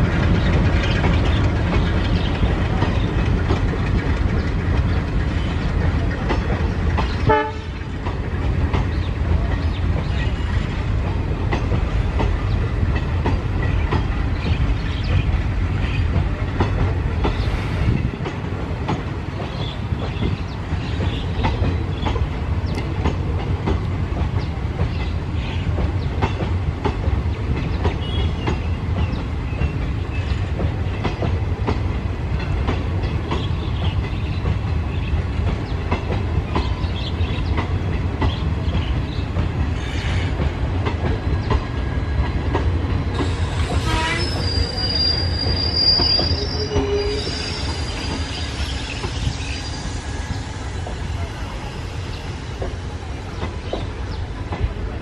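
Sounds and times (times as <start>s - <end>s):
wheels clacking over rail joints: 0.0s - 50.0s
low train rumble: 0.0s - 55.0s.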